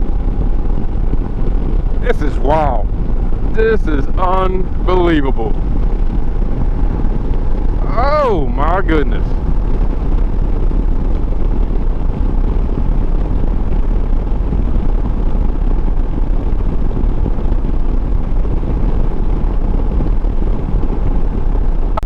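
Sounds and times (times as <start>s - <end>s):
motorcycle engine rumble: 0.0s - 22.0s
wind rush: 0.0s - 22.0s.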